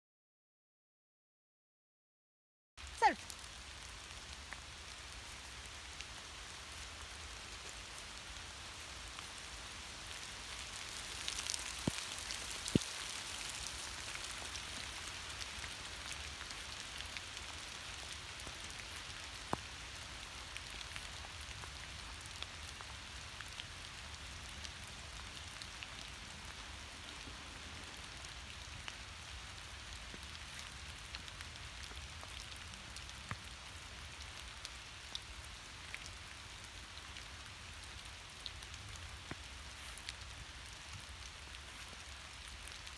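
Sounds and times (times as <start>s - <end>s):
light rain on leaves: 2.8s - 42.9s
single raindrops: 2.8s - 42.9s.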